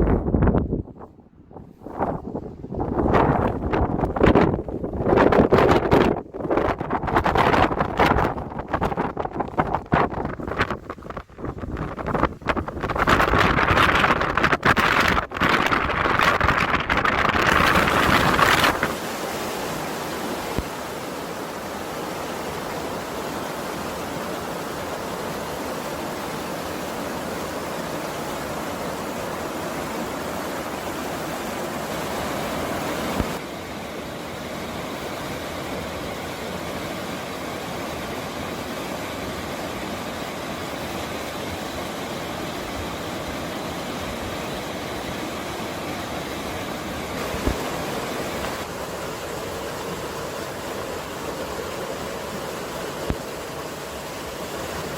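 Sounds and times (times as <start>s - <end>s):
stream water rushing: 1.8s - 54.9s.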